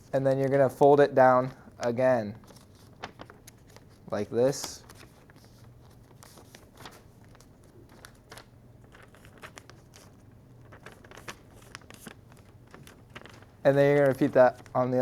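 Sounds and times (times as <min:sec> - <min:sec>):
paper crinkling and rustling: 0:02.4 - 0:15.0
paper folding and creasing: 0:02.4 - 0:15.0.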